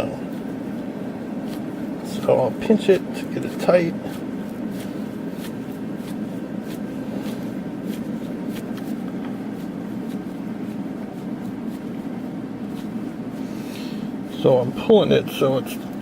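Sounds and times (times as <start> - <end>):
heat gun blower humming: 0.0 - 16.0.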